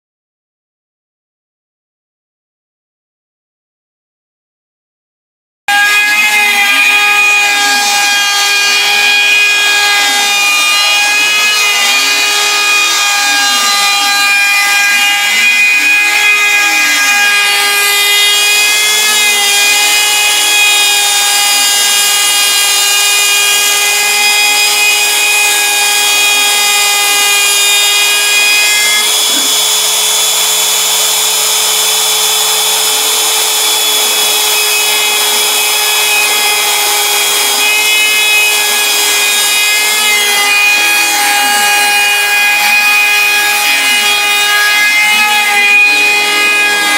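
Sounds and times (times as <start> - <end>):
router whining while cutting: 5.7 - 46.9.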